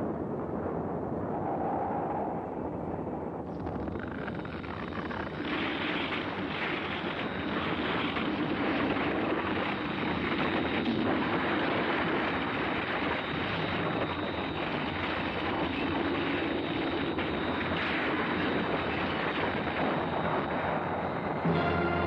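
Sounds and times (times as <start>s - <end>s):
continuous explosion noise: 0.0s - 22.0s.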